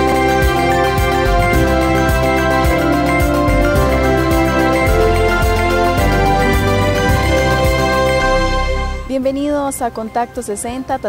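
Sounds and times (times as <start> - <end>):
synthesizer chords over electronic beat: 0.0 - 9.1.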